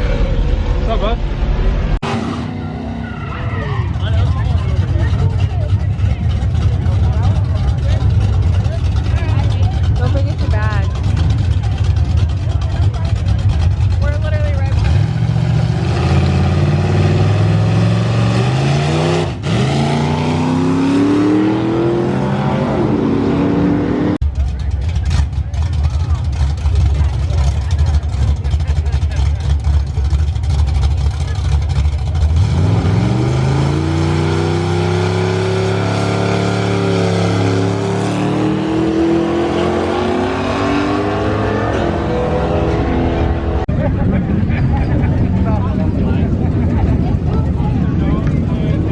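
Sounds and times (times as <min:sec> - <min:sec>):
car engine accelerating hard: 0:02.0 - 0:48.9.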